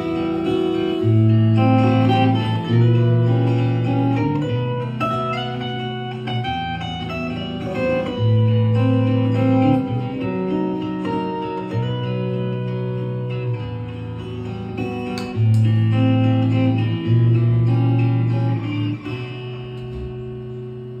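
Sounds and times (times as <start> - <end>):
guitar melody: 0.0 - 21.0.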